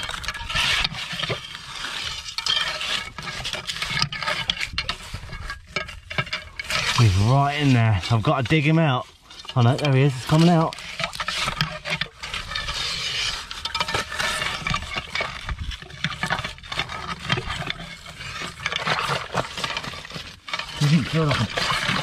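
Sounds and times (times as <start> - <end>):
hand scraping through wet gravel: 0.0 - 22.0.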